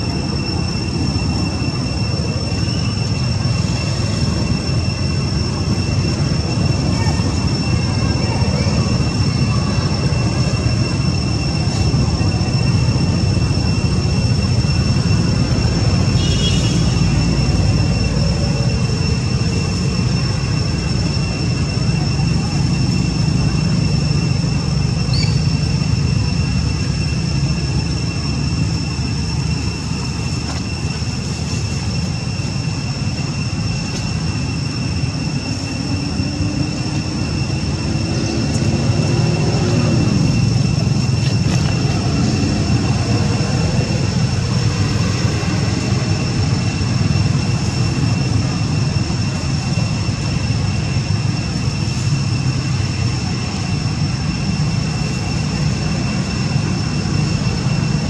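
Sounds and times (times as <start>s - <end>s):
constant high-pitched whine: 0.0s - 58.0s
distant motor traffic rumble: 0.0s - 58.0s.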